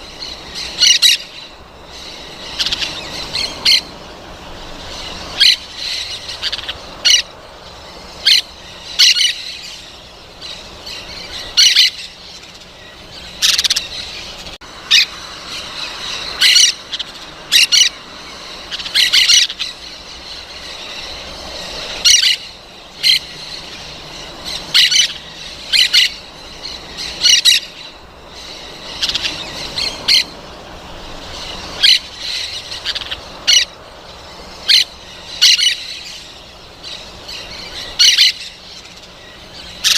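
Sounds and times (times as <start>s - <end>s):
parrots calling: 0.0s - 39.9s.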